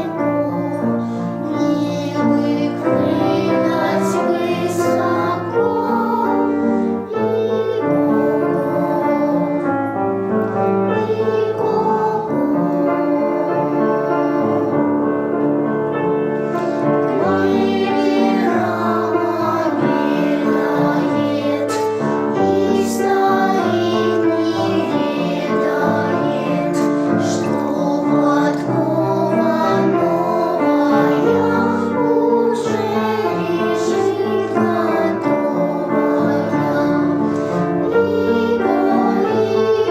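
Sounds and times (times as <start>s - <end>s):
piano accompaniment: 0.0s - 39.9s.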